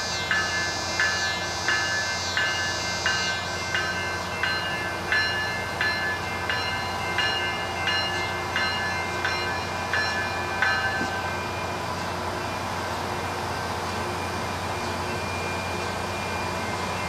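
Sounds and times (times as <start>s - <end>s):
railroad bell ringing: 0.0s - 17.0s.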